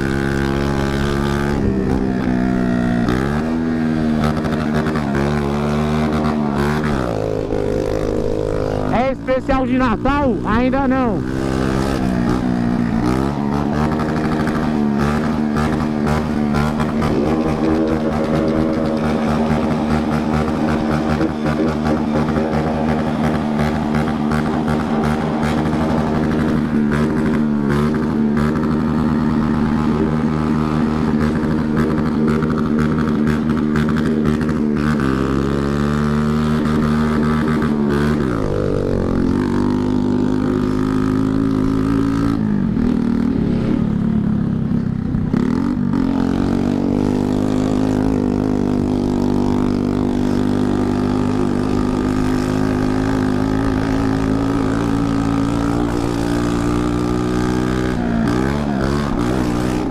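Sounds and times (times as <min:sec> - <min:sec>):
scooter engine revving: 0:00.0 - 0:59.9.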